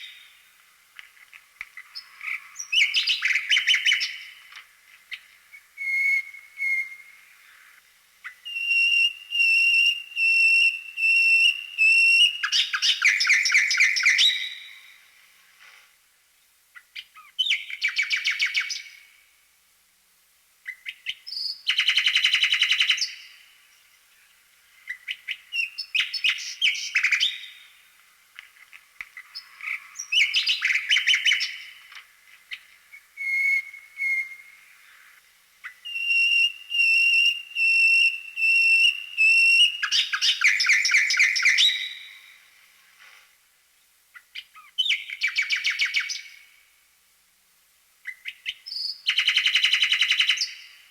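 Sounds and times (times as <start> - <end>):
songbird singing: 0.0 - 0.6, 1.6 - 15.2, 16.4 - 19.3, 20.6 - 43.0, 43.7 - 46.8, 48.0 - 50.9.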